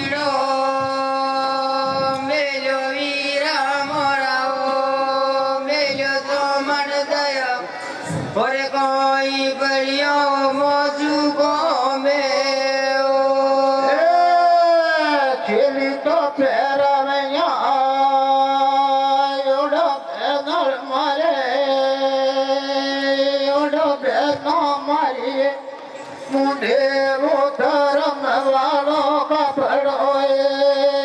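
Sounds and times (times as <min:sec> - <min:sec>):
person singing folk song: 0:00.0 - 0:31.0.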